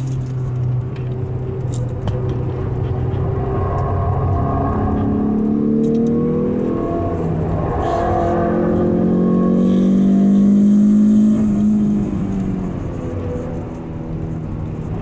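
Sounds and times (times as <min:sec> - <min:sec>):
car engine revving in cabin: 0:01.4 - 0:15.0.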